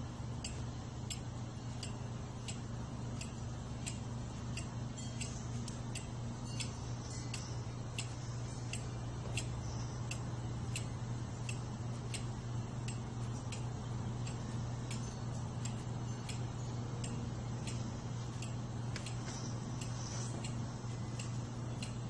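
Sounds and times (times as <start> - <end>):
low hum: 0.0 - 22.0
mechanical ticking: 0.0 - 22.0.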